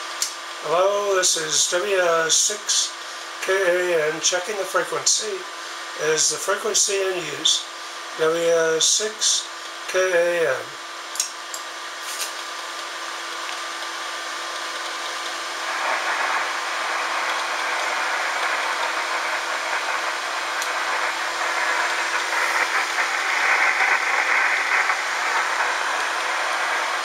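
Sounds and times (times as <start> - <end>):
radio band noise hiss: 0.0 - 27.0.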